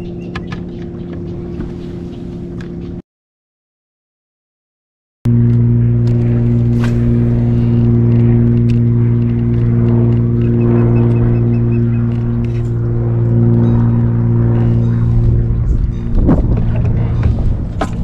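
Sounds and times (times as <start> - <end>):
loud motor hum: 0.0 - 3.0, 5.3 - 18.0.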